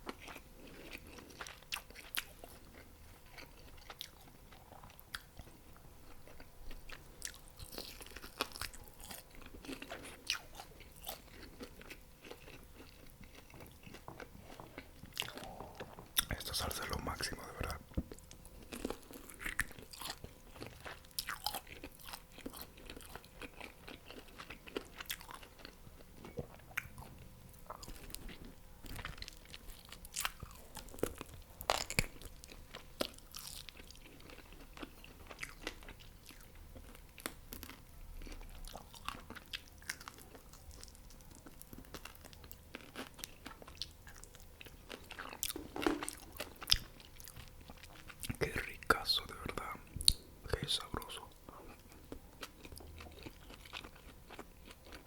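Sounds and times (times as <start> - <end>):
crunching and chewing food: 0.0 - 55.0.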